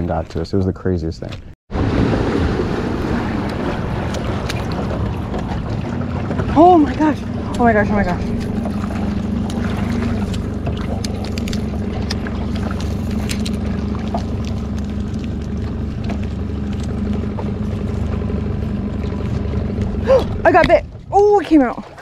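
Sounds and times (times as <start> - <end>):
boat motor humming: 1.7 - 22.0.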